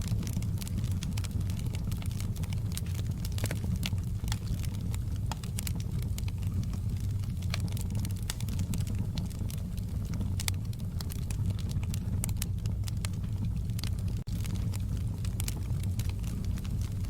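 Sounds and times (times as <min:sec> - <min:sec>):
low rumble: 0:00.0 - 0:17.0
wood fire crackling: 0:00.0 - 0:17.0.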